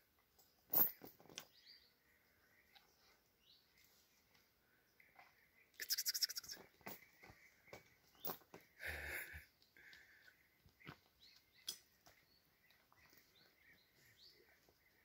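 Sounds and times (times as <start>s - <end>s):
small birds chirping: 1.4s - 15.0s.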